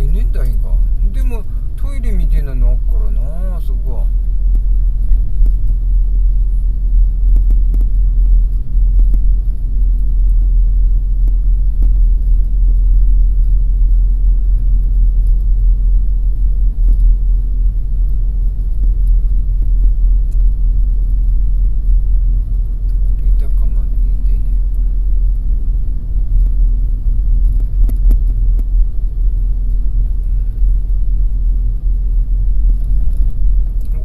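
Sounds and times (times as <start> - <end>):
car engine rumble: 0.0 - 34.0
road noise inside car: 0.0 - 34.0.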